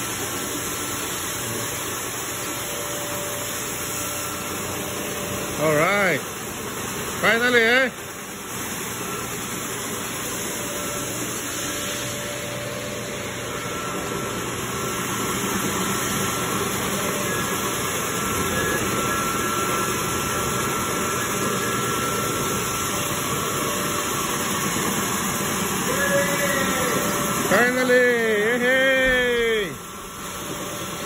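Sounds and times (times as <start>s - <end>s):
floor scrubber motors whirring: 0.0s - 31.0s.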